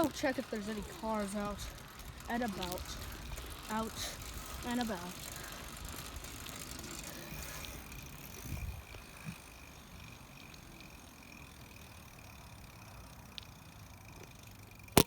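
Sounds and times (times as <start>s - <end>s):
bicycle rolling: 0.0s - 15.0s.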